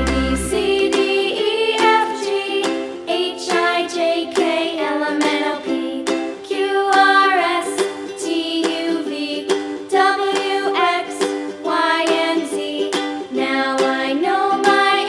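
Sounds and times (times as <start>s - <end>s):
upbeat ukulele tune: 0.0s - 15.0s.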